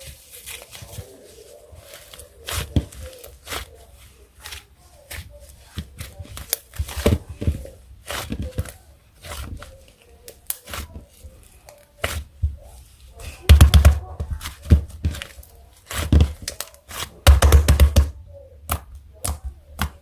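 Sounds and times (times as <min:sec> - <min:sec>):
hands handling sticky crackles: 0:00.0 - 0:20.0.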